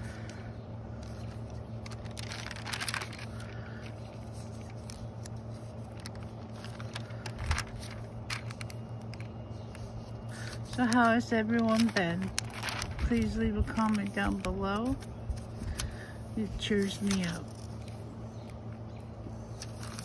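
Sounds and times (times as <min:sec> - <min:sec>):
steady low hum: 0:00.0 - 0:20.0
paper pages rustling: 0:01.0 - 0:18.1, 0:19.5 - 0:20.0.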